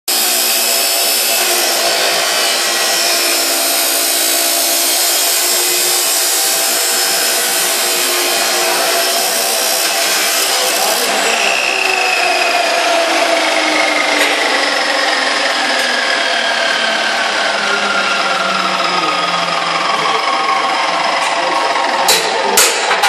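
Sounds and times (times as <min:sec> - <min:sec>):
chop saw cutting metal: 0:00.1 - 0:23.0.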